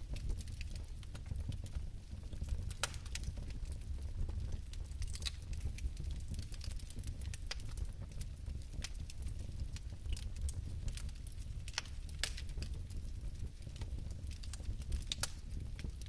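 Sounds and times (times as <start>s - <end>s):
fire crackles and pops: 0.0s - 16.0s
fireplace flame rumble: 0.0s - 16.0s.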